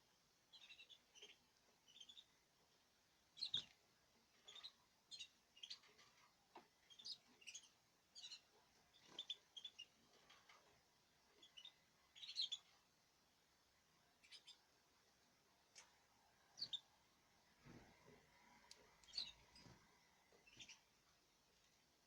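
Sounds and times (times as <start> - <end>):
small bird chirping: 0.4 - 12.9, 13.9 - 14.8, 15.7 - 17.1, 17.8 - 21.7.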